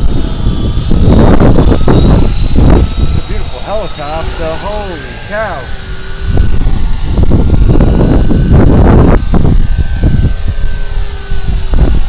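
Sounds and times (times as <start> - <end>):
toy helicopter motor whine: 0.0 - 12.0
wind buffeting microphone: 0.0 - 12.0.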